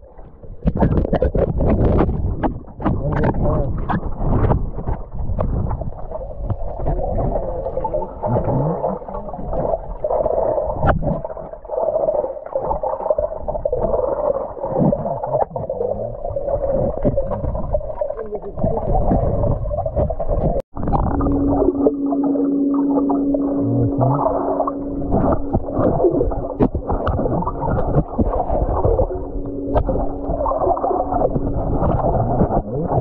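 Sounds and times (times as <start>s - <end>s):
muffled underwater rumbling and sloshing: 0.0s - 33.0s.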